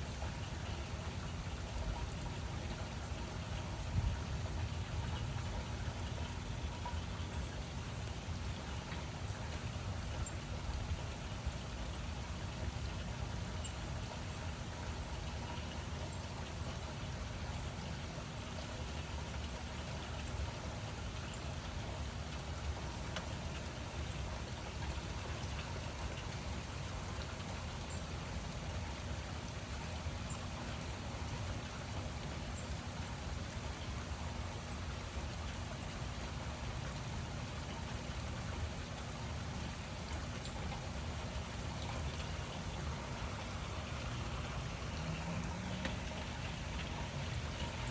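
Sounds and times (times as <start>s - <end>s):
faint drip ticks: 0.0s - 47.9s
steady rain: 0.0s - 47.9s.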